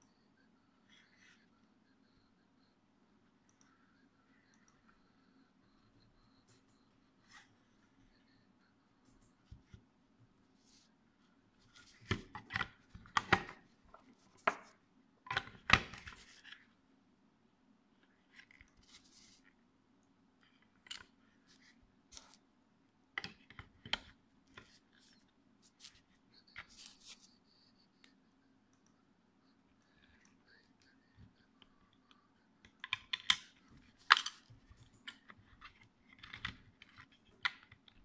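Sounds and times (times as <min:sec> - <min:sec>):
faint hum: 0:00.0 - 0:38.0.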